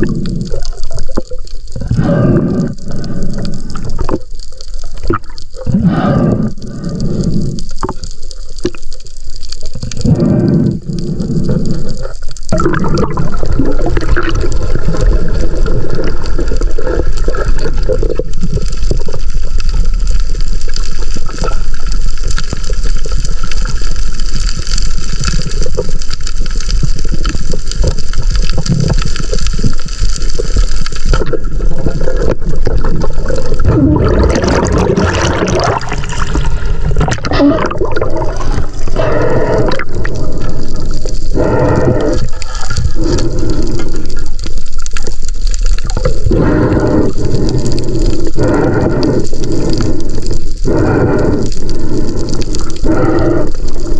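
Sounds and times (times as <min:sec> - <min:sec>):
churning bubbles: 0:00.0 - 0:09.0, 0:09.6 - 0:53.9
water rushing and gurgling: 0:00.0 - 0:53.9.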